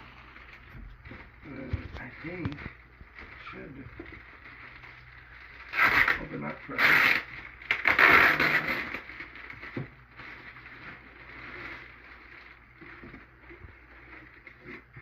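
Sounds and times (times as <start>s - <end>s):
packaging rustling: 0.0s - 15.0s.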